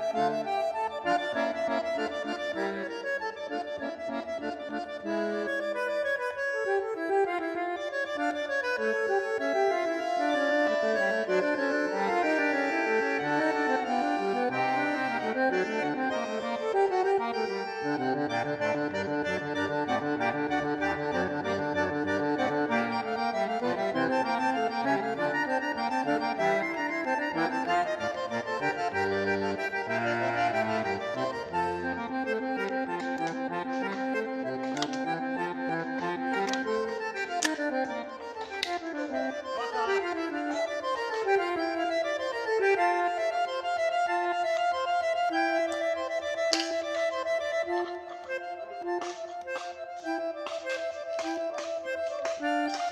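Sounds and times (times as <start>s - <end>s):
accordion music with bass: 0.0s - 52.9s.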